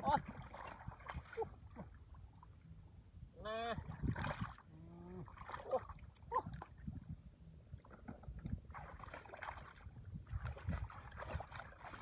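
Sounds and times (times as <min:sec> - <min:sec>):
water sloshing and splashing: 0:00.0 - 0:02.7, 0:03.8 - 0:07.1, 0:07.7 - 0:12.0.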